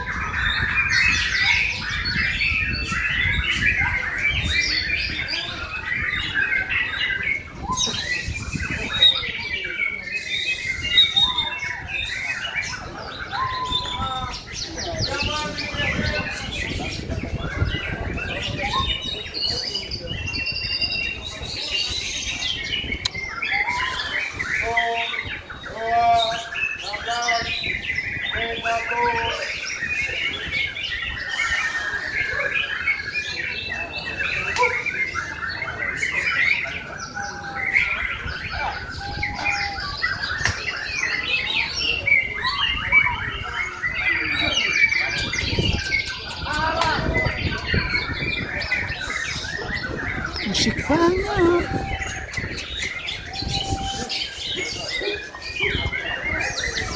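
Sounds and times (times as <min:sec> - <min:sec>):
birds singing whistled phrases: 0:00.0 - 0:56.9.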